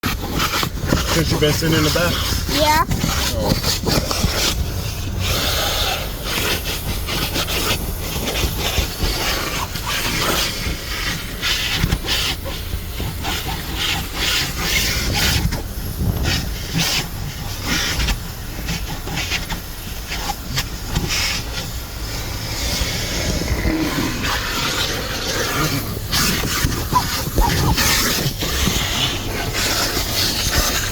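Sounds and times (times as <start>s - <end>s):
nozzle scraping and clicking: 0.0s - 30.9s
vacuum cleaner running: 0.4s - 30.9s.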